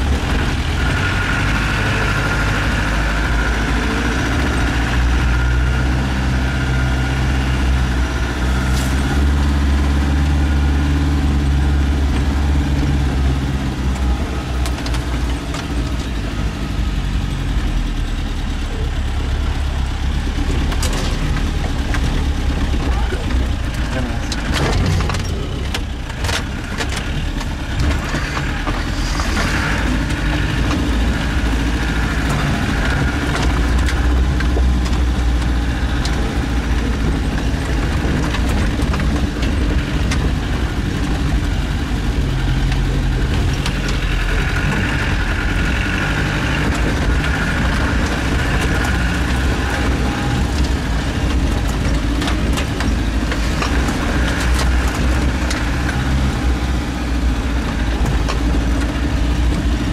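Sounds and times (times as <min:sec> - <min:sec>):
knocks and rattles over rocks: 0:00.0 - 0:17.8, 0:18.5 - 0:59.9
car engine running: 0:00.0 - 0:59.9.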